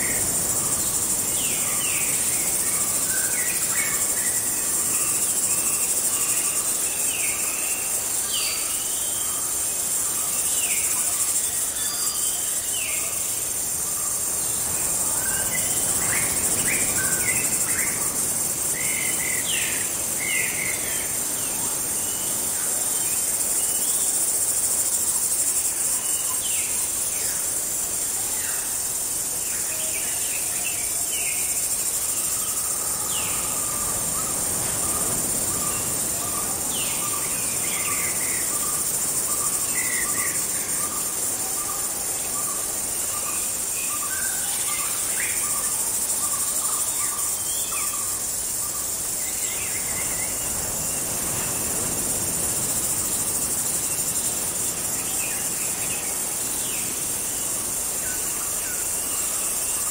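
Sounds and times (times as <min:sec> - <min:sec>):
crickets and insects chirping: 0:00.0 - 0:59.9.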